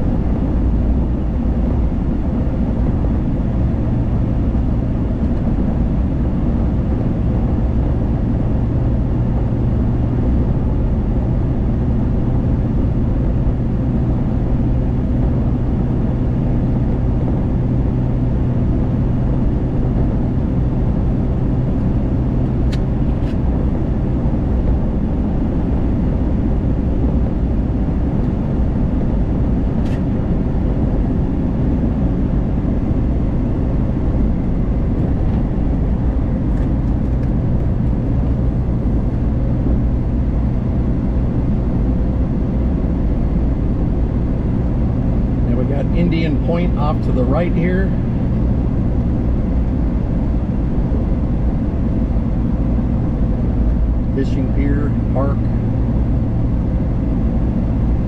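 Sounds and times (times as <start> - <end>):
car tyres and engine rumble: 0.0 - 58.0
low hum: 0.0 - 58.0.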